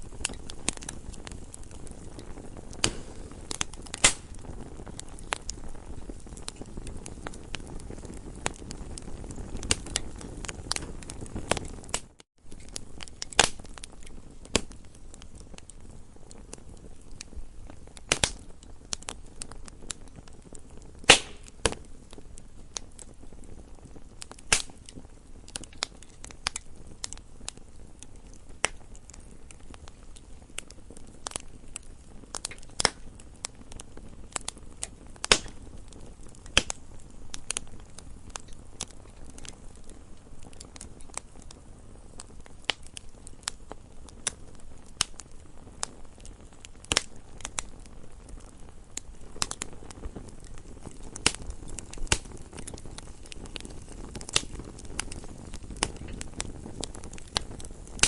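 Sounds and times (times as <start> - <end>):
burning wood popping and snapping: 0.0 - 58.0
low rumble of flames: 0.0 - 58.0.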